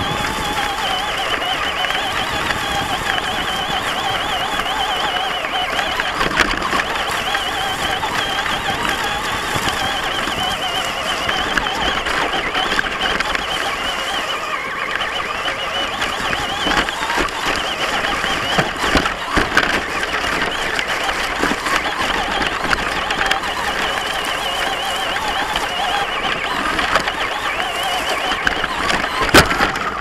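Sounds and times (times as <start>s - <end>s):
toy truck motor whine: 0.0s - 30.0s
truck bouncing knocks and thumps: 0.0s - 30.0s.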